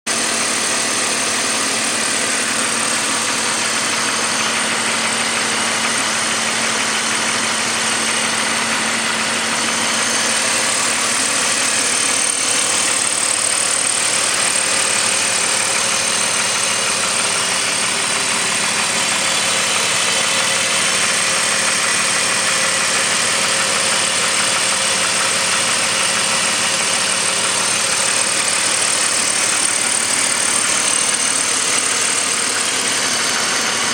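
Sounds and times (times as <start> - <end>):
car engine idling: 0.1 - 33.9
engine knocking: 0.1 - 33.9.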